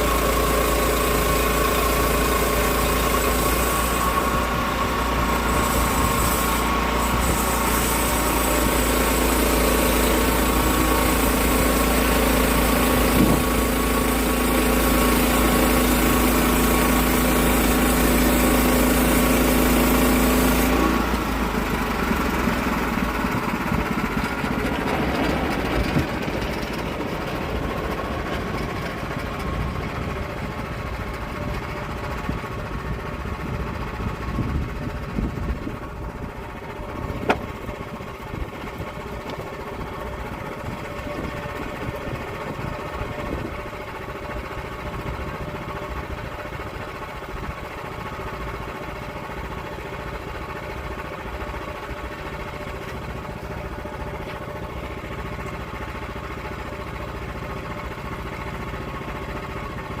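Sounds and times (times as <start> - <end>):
log mill engine running: 0.0 - 60.0.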